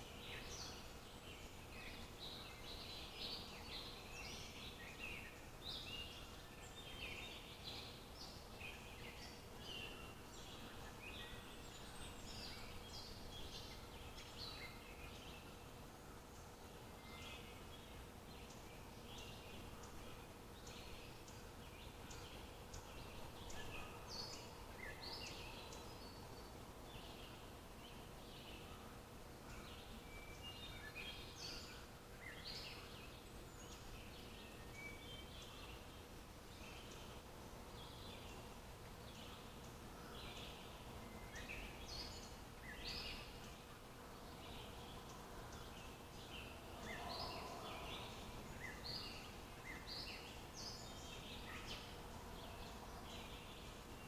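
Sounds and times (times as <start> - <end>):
faint hiss and hum: 0.0 - 54.0
songbirds chirping and singing: 0.0 - 54.0.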